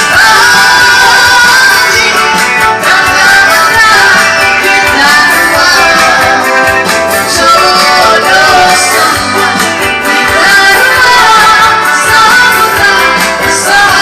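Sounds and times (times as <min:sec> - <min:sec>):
guitar accompaniment: 0:00.0 - 0:14.0
person singing: 0:00.0 - 0:14.0.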